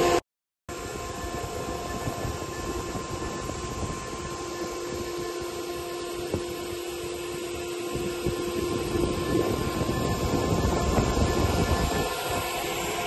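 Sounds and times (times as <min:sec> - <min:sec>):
whining tones: 0:00.0 - 0:13.0
wood router machine hum: 0:00.0 - 0:13.0.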